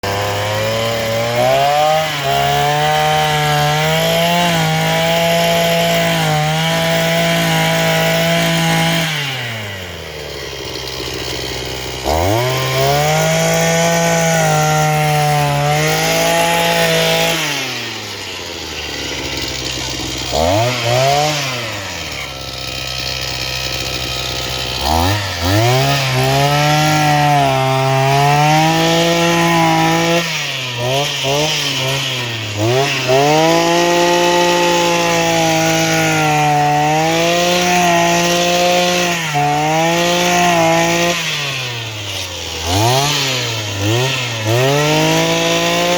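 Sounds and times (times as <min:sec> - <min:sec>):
two-stroke auger engine revving: 0:00.0 - 0:45.9.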